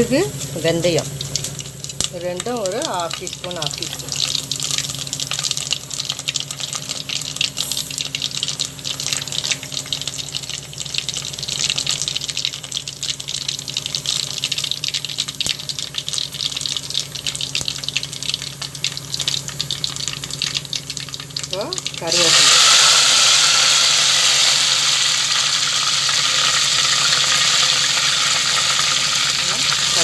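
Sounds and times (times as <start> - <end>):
spices sizzling in hot oil: 0.0 - 30.0.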